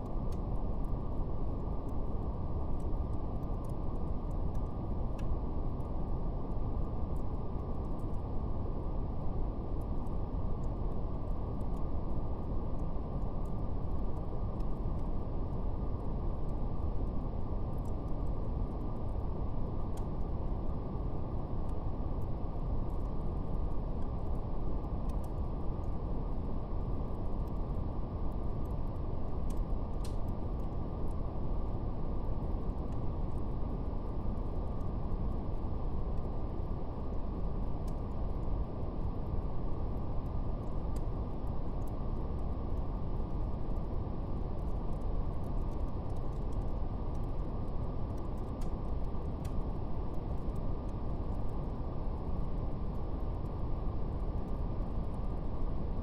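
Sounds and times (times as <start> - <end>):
faint fire crackle: 0.0 - 56.0.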